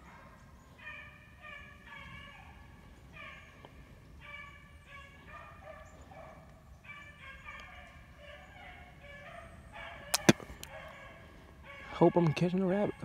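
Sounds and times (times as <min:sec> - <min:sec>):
distant hunting dogs baying: 0:00.0 - 0:13.0.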